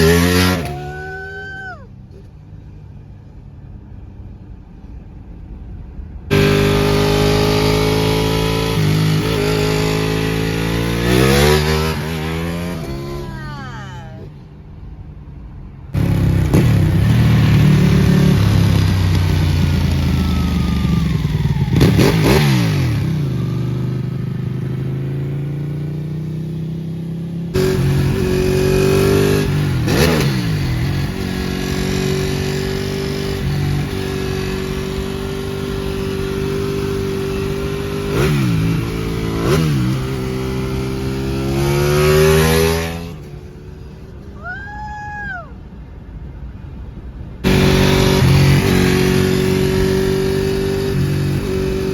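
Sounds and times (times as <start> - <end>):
motorcycle engine revving: 0.0 - 1.3, 6.3 - 14.0, 16.0 - 44.3, 47.4 - 51.9.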